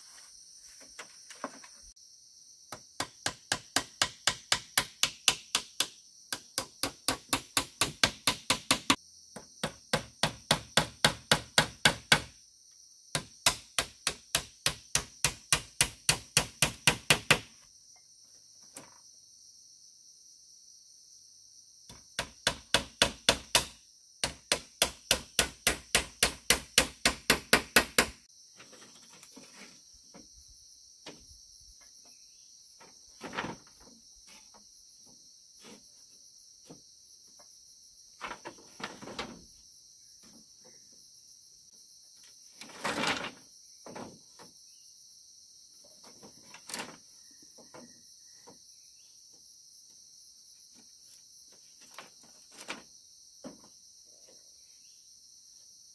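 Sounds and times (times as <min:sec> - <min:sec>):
crickets droning: 0:00.0 - 0:55.9.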